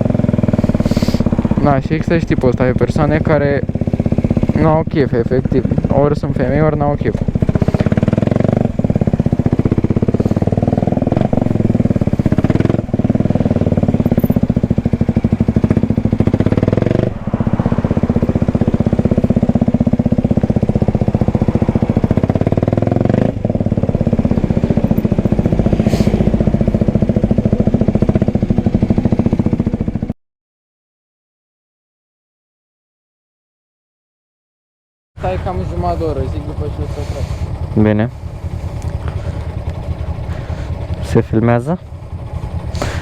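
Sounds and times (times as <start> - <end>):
motorcycle engine running: 0.0 - 30.1, 35.2 - 43.0.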